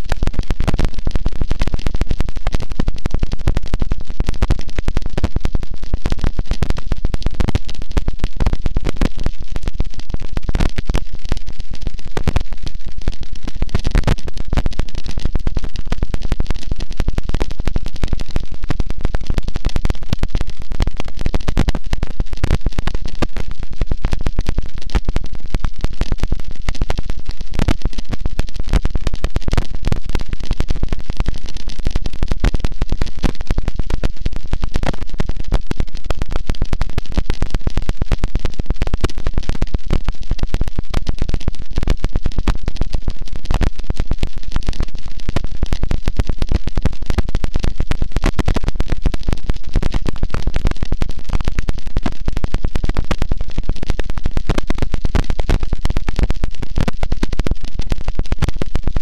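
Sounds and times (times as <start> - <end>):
harsh distorted static noise: 0.0 - 59.0.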